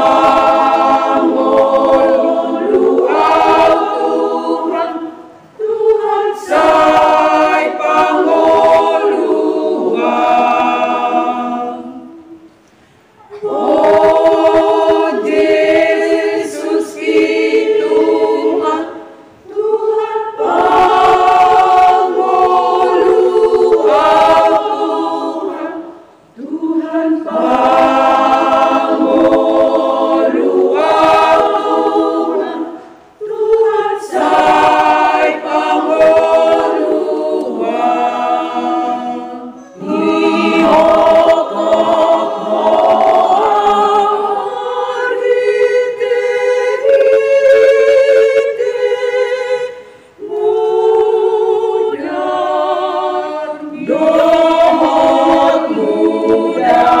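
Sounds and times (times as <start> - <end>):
women's choir singing a hymn: 0.0 - 57.0.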